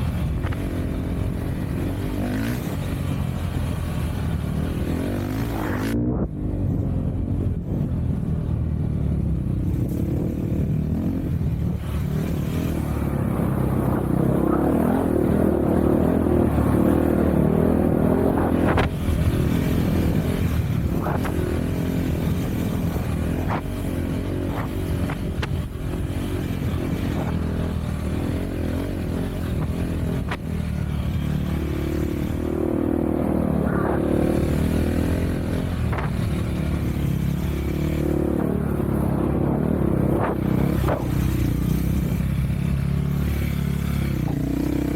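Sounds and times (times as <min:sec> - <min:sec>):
off-road vehicle engine: 0:00.0 - 0:44.9.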